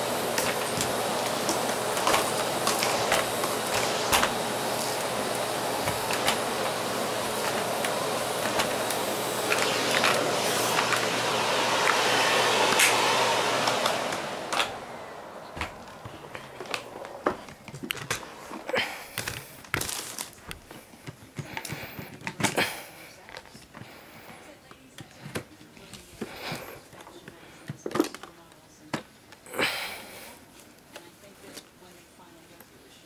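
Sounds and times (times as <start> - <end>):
vacuum cleaner running: 0.0 - 27.5, 29.5 - 30.4.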